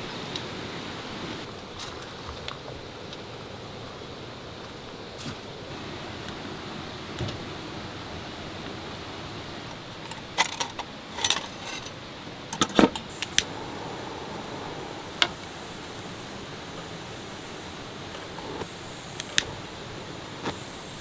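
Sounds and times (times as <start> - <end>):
steady rain hiss: 0.0 - 1.8, 2.4 - 10.1, 13.1 - 21.0.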